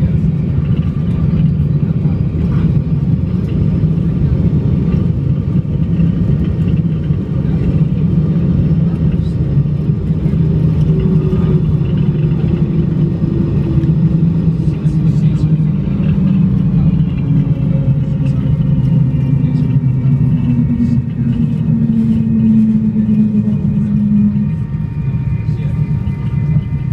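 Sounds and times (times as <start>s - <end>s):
faint whine: 0.0s - 26.9s
jet cabin low rumble: 0.0s - 26.9s.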